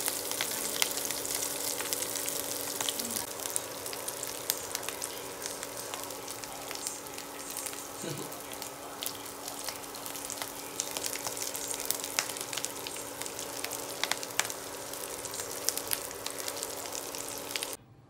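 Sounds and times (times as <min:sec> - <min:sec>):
patties sizzling in oil: 0:00.0 - 0:17.8
steady hum: 0:00.0 - 0:17.8.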